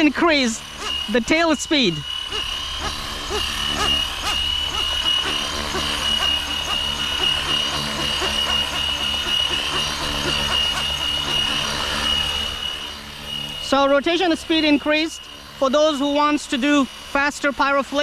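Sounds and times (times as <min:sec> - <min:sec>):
high-pitched motor whine: 0:00.0 - 0:18.0
rotors humming: 0:00.0 - 0:18.0.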